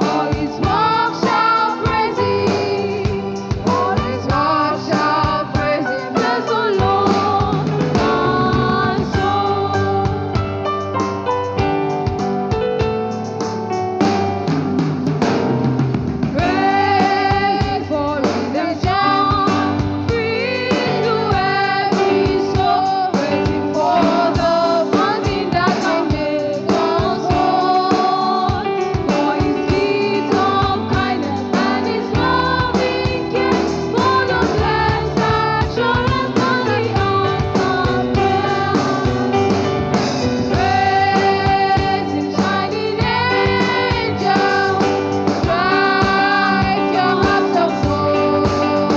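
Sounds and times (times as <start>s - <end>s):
person singing: 0.0s - 10.4s, 16.3s - 39.4s, 40.5s - 48.9s
drum kit: 0.0s - 48.9s
guitar: 0.0s - 48.9s
keyboard: 0.0s - 48.9s.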